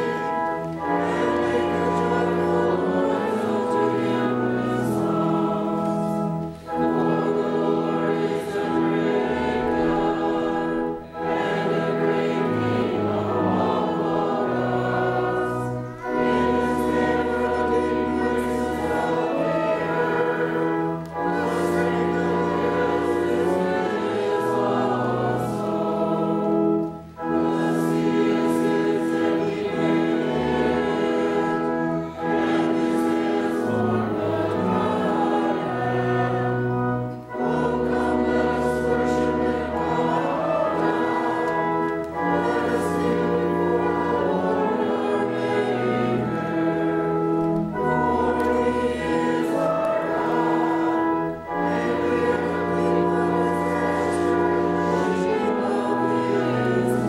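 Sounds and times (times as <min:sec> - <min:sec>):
congregation singing: 0:00.0 - 0:57.0
organ: 0:00.0 - 0:57.0.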